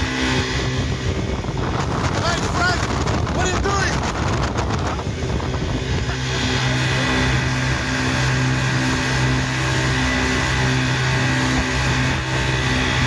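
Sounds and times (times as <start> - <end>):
outboard motors droning: 0.0 - 13.0
wind buffeting microphone: 0.0 - 13.0.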